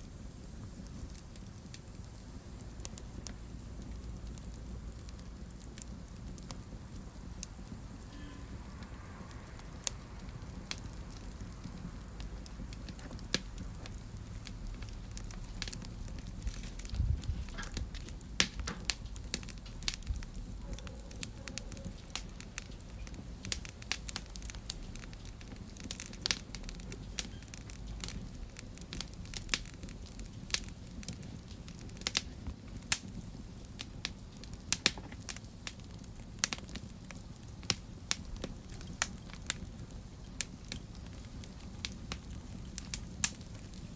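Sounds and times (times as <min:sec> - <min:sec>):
fire crackling and popping: 0:00.0 - 0:43.9
low rumble of flames: 0:00.0 - 0:43.9.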